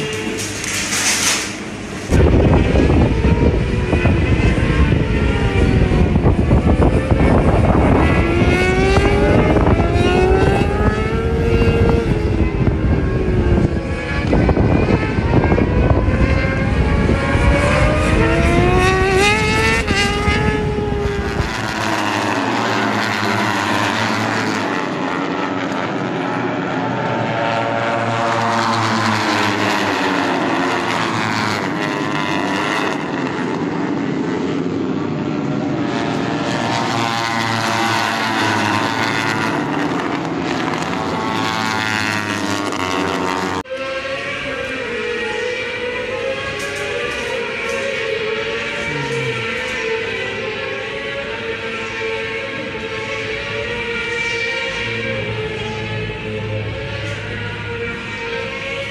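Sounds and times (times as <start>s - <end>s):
racing motorcycles passing: 0.0s - 58.9s.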